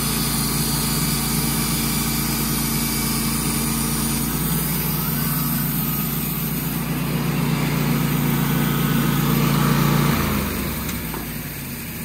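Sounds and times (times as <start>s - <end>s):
gas engine running: 0.0s - 12.0s.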